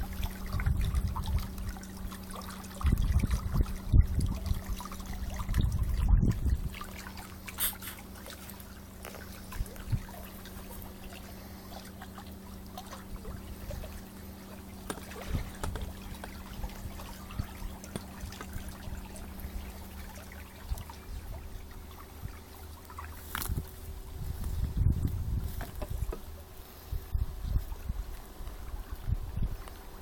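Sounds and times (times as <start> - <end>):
small splashes: 0.0 - 24.6
underwater motor hum: 0.0 - 30.0
water trickling and lapping: 0.0 - 30.0.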